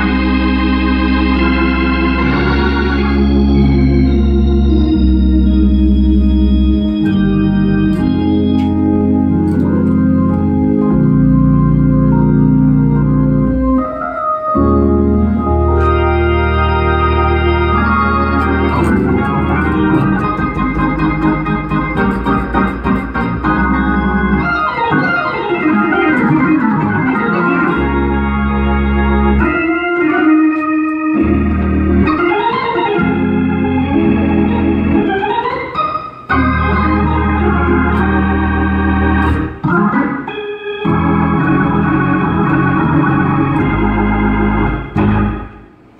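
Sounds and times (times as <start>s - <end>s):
gospel organ playing: 0.0s - 45.9s.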